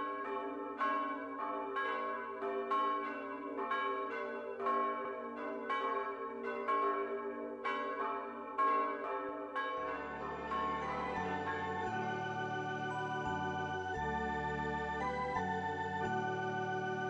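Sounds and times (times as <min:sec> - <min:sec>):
church bells ringing a peal: 0:00.0 - 0:17.0.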